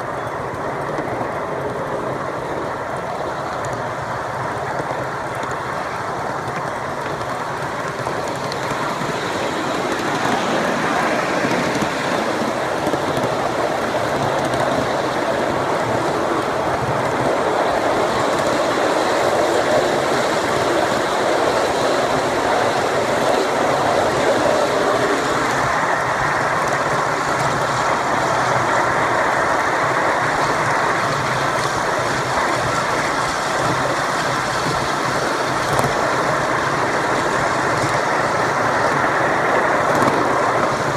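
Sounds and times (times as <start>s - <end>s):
small wheels rolling on rails: 0.0s - 40.9s.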